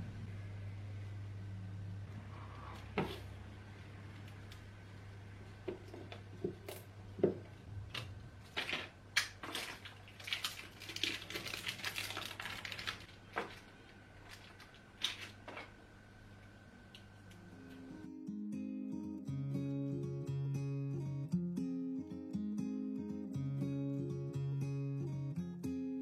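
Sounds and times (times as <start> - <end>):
low steady hum: 0.0 - 21.3.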